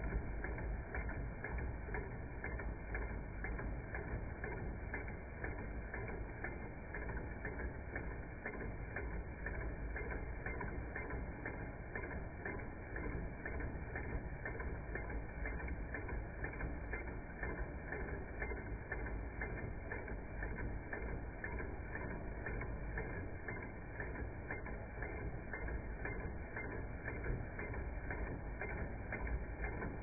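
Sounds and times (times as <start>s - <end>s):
regular mechanical clicks: 0.0s - 30.0s.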